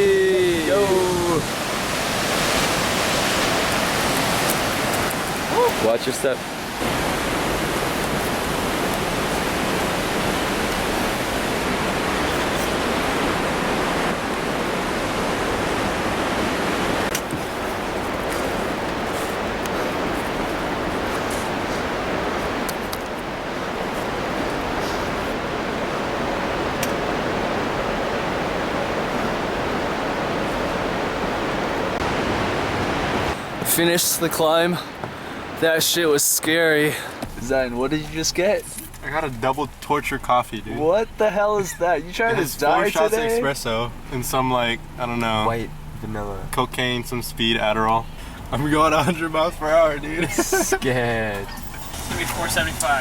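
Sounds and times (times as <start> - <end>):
waterfall rushing: 0.0 - 39.8, 40.6 - 43.8, 48.0 - 53.0.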